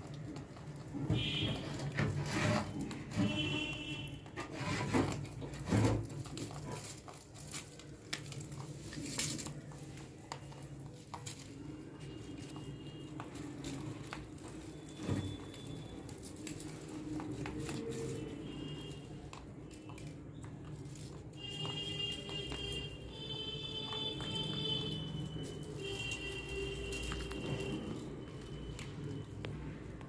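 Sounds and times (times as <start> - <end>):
rabbit nibbling dry grass: 0.0 - 30.0.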